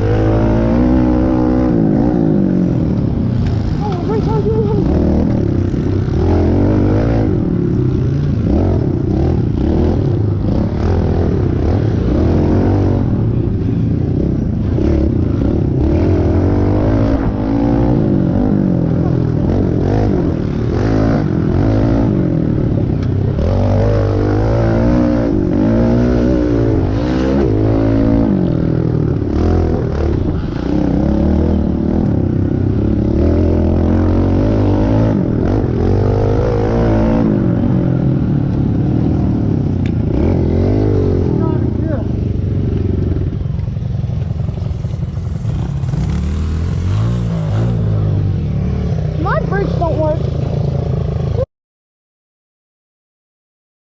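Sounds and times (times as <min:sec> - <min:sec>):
motorbike engine revving: 0:00.0 - 0:51.4.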